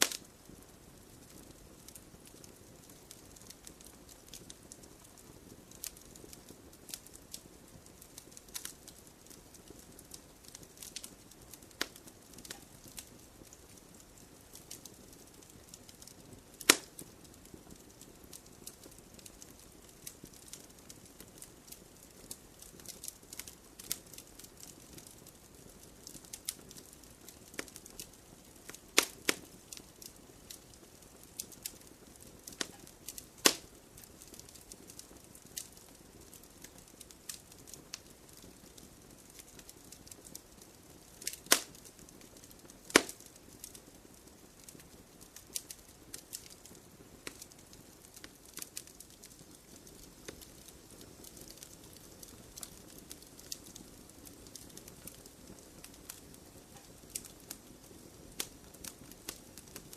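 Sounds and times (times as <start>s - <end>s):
campfire crackling and popping: 0.0s - 59.9s
faint hiss of burning: 0.0s - 59.9s.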